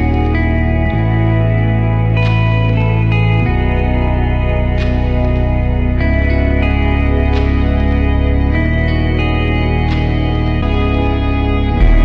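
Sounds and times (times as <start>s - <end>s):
held chords over bass line: 0.0s - 12.0s.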